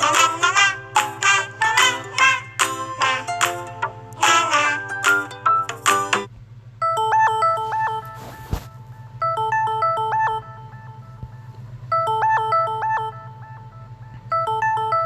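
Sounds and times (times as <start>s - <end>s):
different ringtone notes: 0.0s - 15.0s
low steady hum: 0.0s - 15.0s
phone ringtone melody: 0.0s - 15.0s.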